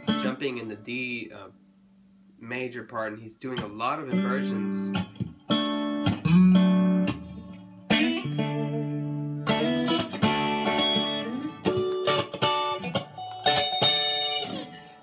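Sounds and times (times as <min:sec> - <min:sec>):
clean electric guitar chords: 0:00.0 - 0:00.9, 0:03.6 - 0:15.0.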